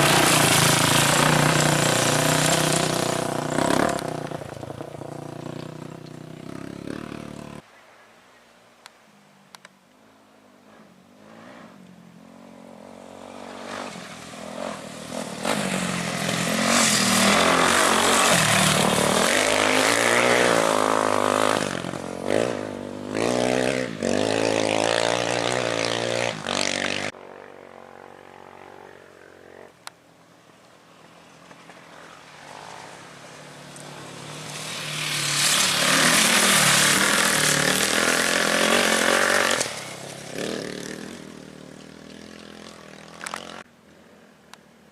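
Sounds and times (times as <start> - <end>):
off-road race vehicle engines passing: 0.0 - 7.6, 10.1 - 29.9, 30.6 - 44.4.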